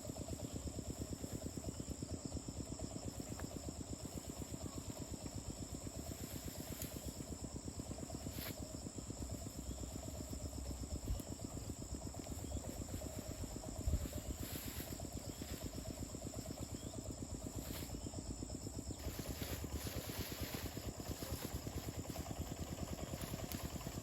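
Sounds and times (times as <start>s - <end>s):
insects chirring: 0.0s - 24.0s
low fast pulsing: 0.0s - 24.0s.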